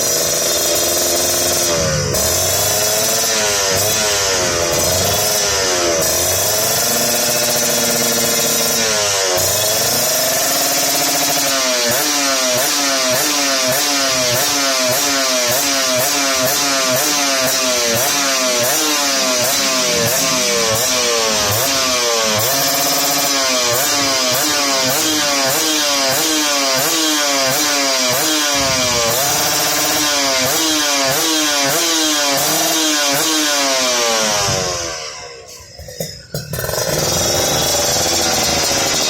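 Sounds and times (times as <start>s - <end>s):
two-stroke motorcycle engine revving: 0.0s - 39.0s.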